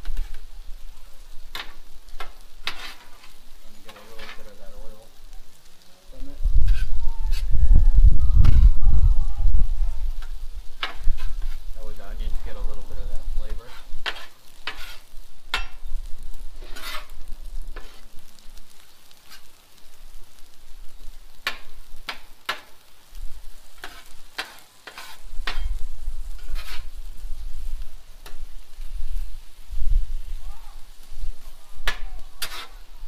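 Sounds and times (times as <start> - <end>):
metal spatula scraping on griddle: 0.0 - 7.6, 9.8 - 29.4, 30.8 - 33.0
frying sizzle: 0.0 - 33.0.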